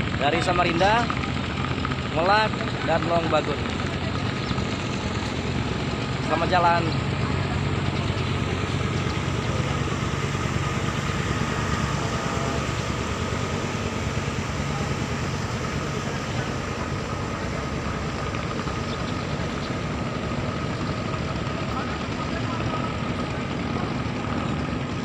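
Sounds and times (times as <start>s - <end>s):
boat diesel engine humming: 0.0s - 25.0s
high whine: 0.0s - 25.0s.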